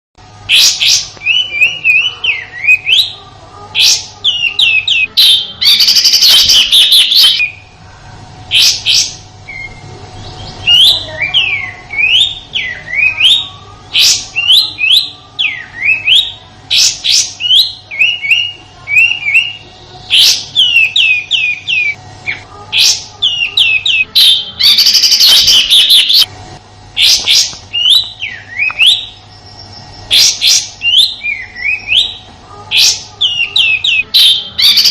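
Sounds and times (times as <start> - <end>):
harsh rattling bird call: 0.5 - 7.7, 8.5 - 22.0, 22.7 - 26.3, 27.0 - 34.9
bird whistled chirps: 3.8 - 7.6, 8.5 - 22.0, 22.8 - 26.3, 27.0 - 32.2, 32.8 - 34.9.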